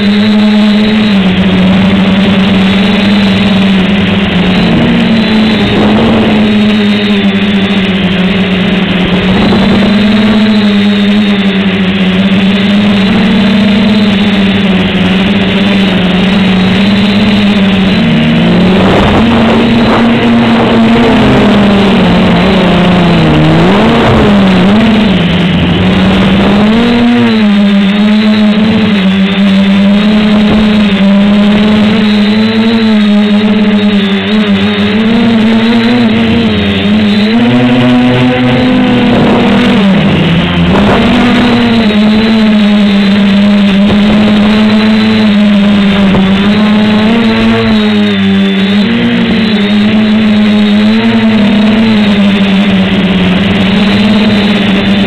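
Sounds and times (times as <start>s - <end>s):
quadcopter motors buzzing: 0.0s - 55.0s.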